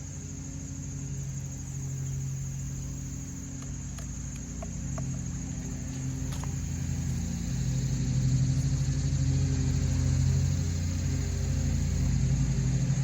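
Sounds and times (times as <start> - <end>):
two-stroke edger engine idling: 0.0 - 13.0.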